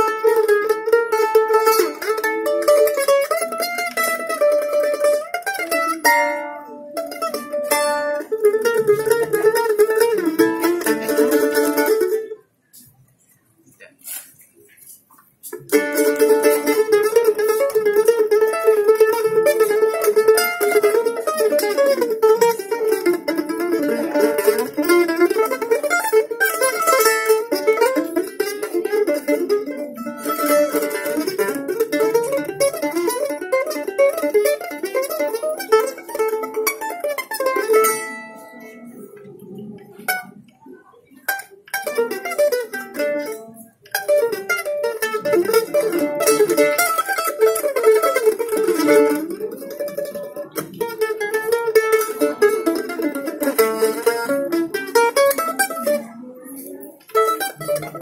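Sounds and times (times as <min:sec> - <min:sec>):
mandolin tremolo picking: 0:00.0 - 0:12.9, 0:14.8 - 0:58.0.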